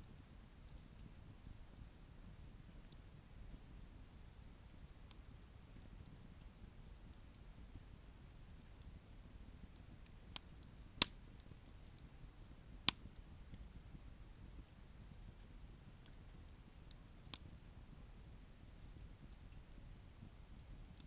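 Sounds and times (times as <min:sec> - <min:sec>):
faint low rumble: 0:00.0 - 0:21.0
wood fire crackling and popping: 0:00.0 - 0:21.0.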